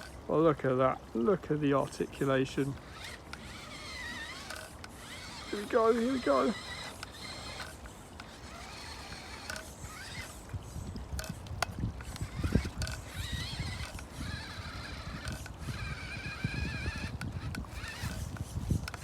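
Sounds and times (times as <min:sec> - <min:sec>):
rc car motor whining: 0:00.0 - 0:00.2, 0:01.1 - 0:19.0.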